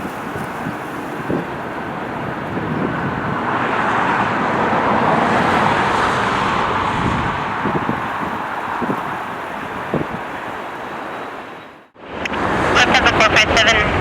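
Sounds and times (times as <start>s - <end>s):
jet airliner engines rushing: 0.0s - 14.0s.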